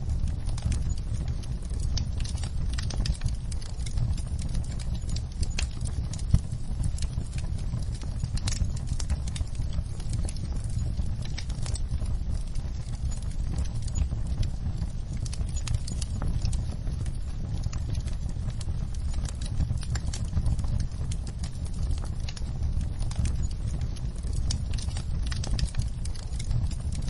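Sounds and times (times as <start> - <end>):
low rumble of flames: 0.0 - 27.0
wood fire crackling and popping: 0.0 - 27.0.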